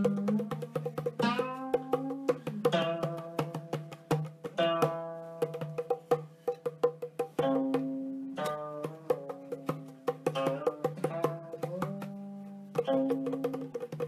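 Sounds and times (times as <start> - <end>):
plucked zither notes: 0.0 - 6.7, 7.3 - 13.9
light percussive taps: 0.0 - 14.0.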